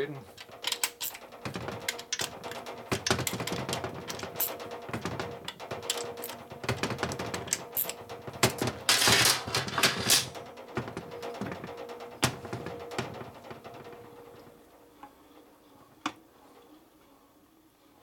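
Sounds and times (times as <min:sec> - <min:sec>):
metallic clatter: 0:00.3 - 0:14.7.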